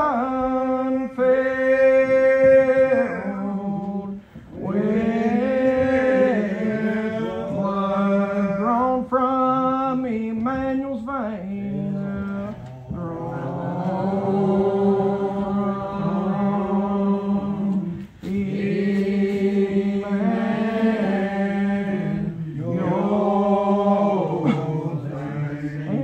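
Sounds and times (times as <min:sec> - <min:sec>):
congregation singing a hymn: 0:00.0 - 0:26.0.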